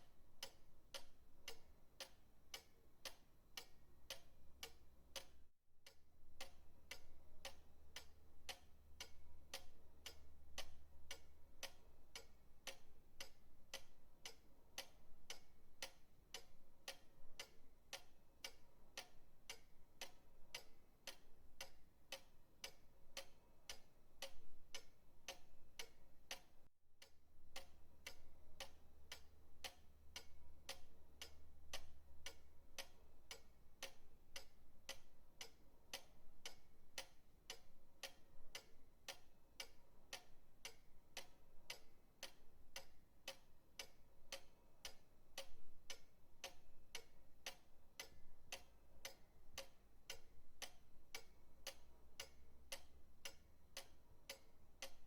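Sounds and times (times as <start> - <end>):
pendulum clock ticking: 0.0 - 55.0.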